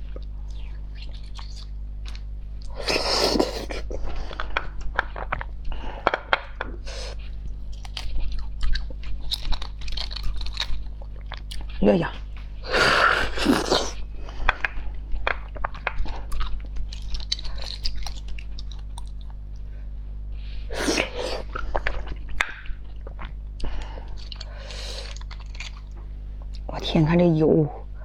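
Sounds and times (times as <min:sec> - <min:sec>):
crunchy chewing of food: 0:00.0 - 0:26.7
low steady hum: 0:00.0 - 0:28.0.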